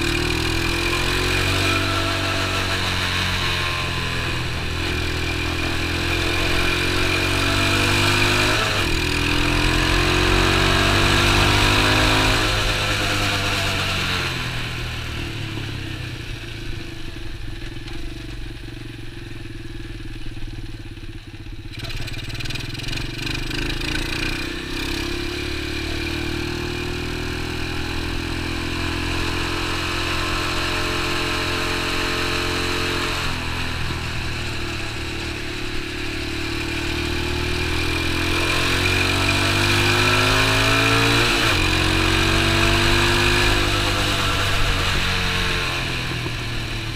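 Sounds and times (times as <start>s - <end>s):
small motorbike engine revving: 0.0s - 18.2s, 21.0s - 46.9s.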